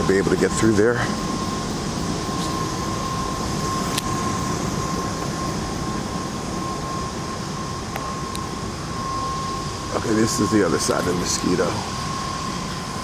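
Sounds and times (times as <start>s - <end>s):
faint constant whine: 0.0s - 13.0s.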